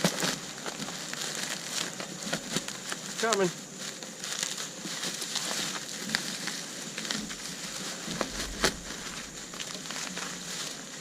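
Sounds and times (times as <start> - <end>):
packing peanuts rustling: 0.0 - 11.0.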